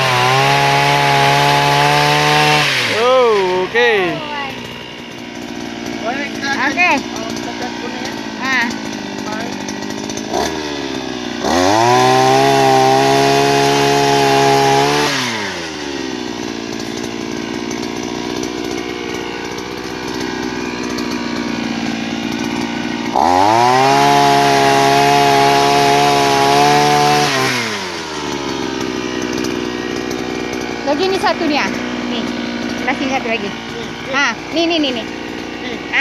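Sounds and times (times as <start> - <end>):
small engine revving and idling: 0.0 - 36.0.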